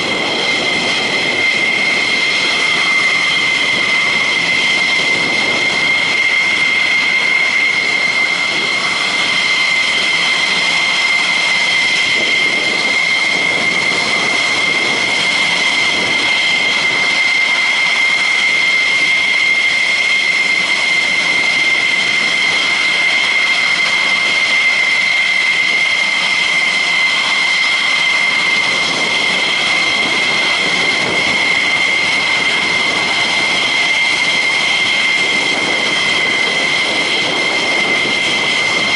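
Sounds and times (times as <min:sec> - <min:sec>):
jet engines idling: 0:00.0 - 0:38.9.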